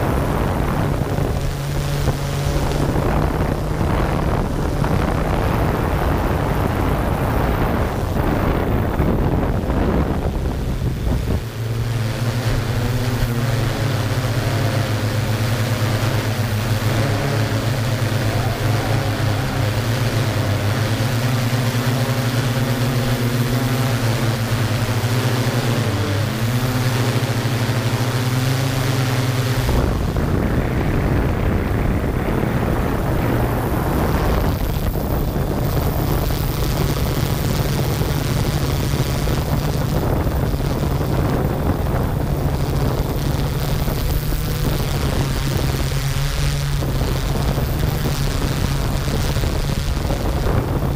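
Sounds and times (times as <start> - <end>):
drone propellers humming: 0.0 - 50.9
wind rushing on microphone: 0.0 - 50.9.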